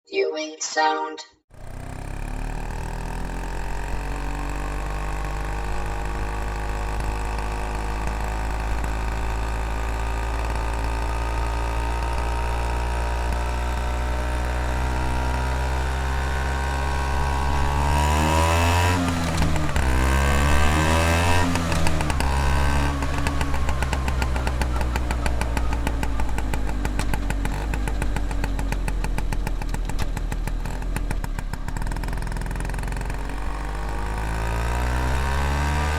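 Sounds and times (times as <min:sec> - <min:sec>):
scooter engine revving: 0:01.6 - 0:35.9.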